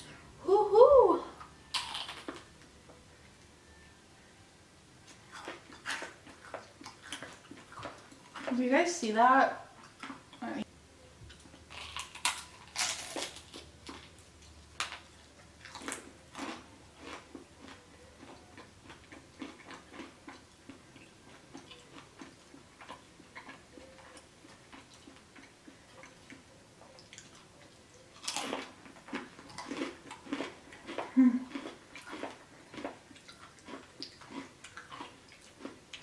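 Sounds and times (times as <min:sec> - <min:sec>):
person chewing: 0:01.4 - 0:02.7, 0:05.0 - 0:08.6, 0:09.7 - 0:10.4, 0:11.3 - 0:36.0.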